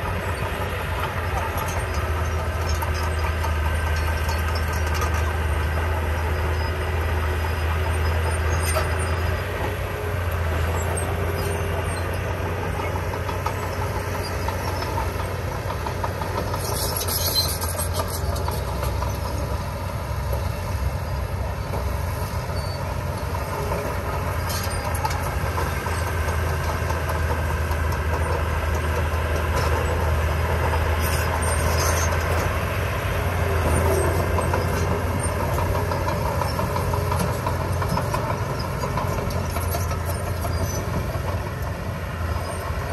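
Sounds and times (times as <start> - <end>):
diesel engine humming: 0.0 - 42.9.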